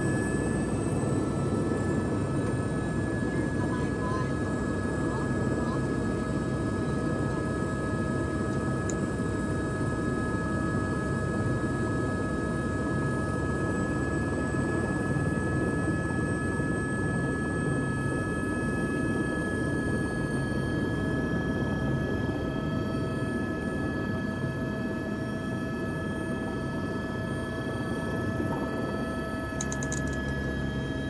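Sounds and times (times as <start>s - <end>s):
helicopter engine and rotor: 0.0s - 31.0s.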